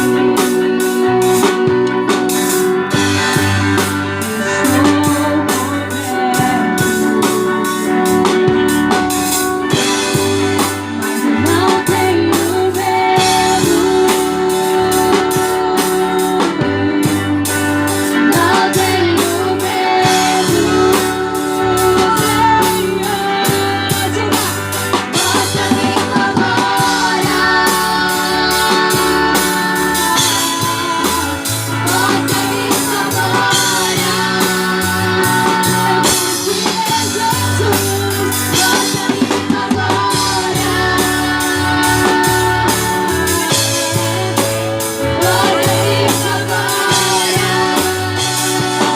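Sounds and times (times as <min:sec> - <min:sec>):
bass: 0:00.0 - 0:48.9
drum kit: 0:00.0 - 0:48.9
guitar: 0:00.0 - 0:48.9
person singing: 0:00.0 - 0:48.9.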